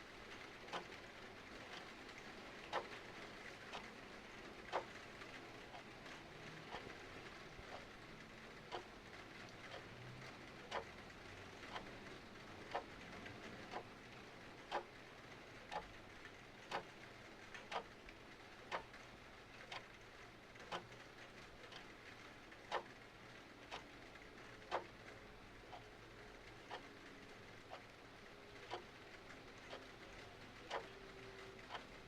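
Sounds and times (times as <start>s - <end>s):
soft hiss of rain: 0.0s - 32.0s
mechanical clock ticking: 0.3s - 8.0s, 8.6s - 8.9s, 9.5s - 32.0s.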